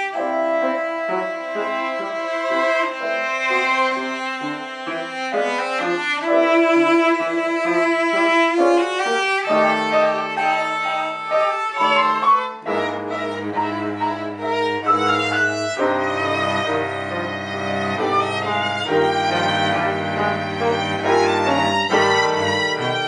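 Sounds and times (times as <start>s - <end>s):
violin cello and piano trio: 0.0s - 23.0s.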